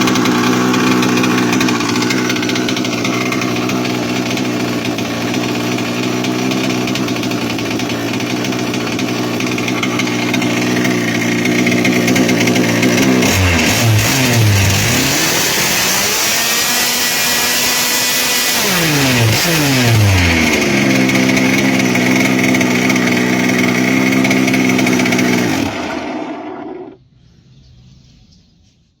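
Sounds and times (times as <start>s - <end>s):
two-stroke boat engine revving: 0.0s - 27.0s.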